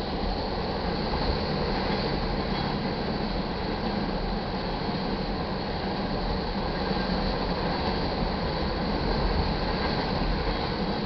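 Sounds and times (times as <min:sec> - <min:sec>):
train wheels rolling on rail: 0:00.0 - 0:11.0.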